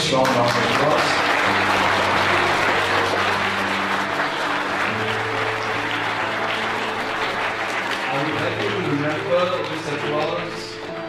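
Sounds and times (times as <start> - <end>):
audience applause: 0.0 - 11.0
held music notes: 0.0 - 11.0.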